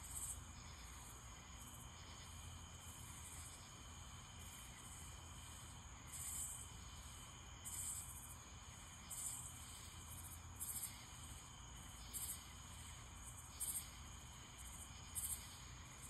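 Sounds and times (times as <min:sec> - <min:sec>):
faint low background noise: 0:00.0 - 0:16.0
insect chirping: 0:00.0 - 0:16.0.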